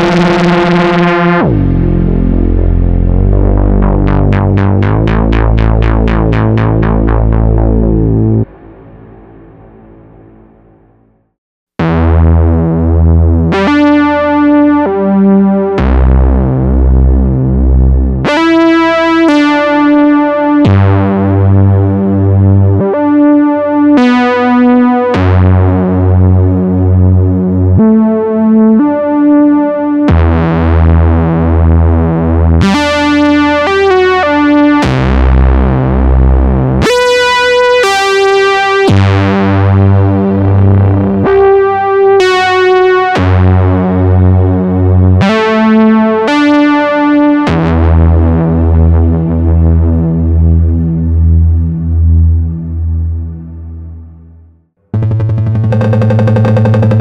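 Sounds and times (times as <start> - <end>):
synthesizer lead melody: 0.0 - 11.0, 11.8 - 54.2, 54.8 - 57.0
pulsing low synth notes: 0.0 - 57.0.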